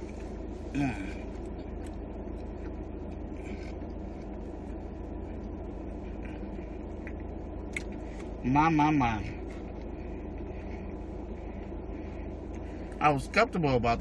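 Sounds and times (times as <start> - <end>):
car idling inside cabin: 0.0 - 14.0.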